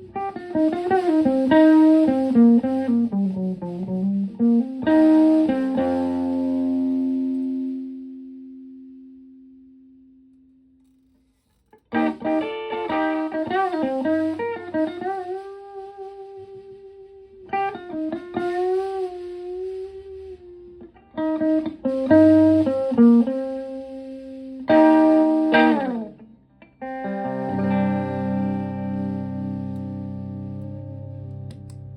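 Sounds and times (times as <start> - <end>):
electric guitar chord stabs: 0.0 - 9.9, 11.9 - 31.9
clean electric guitar lead: 0.0 - 10.5, 11.9 - 31.9.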